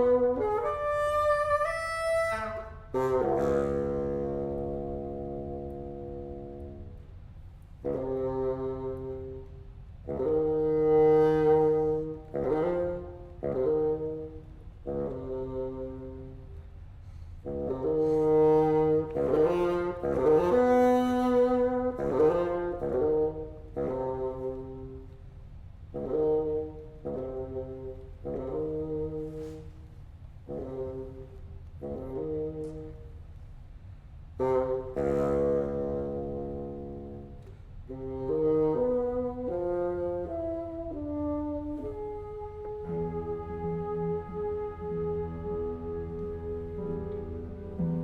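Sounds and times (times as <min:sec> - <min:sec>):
bassoon: 0:00.0 - 0:07.2, 0:07.8 - 0:25.3, 0:25.9 - 0:33.3, 0:34.4 - 0:48.0.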